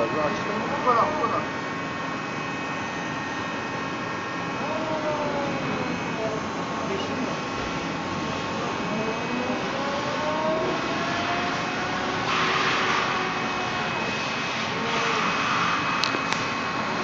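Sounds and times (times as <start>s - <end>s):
machine hiss and whine: 0.0s - 17.0s.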